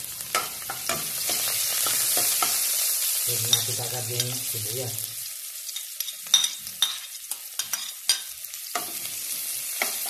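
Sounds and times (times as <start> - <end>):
garlic and onion sizzling in oil: 0.0 - 10.0.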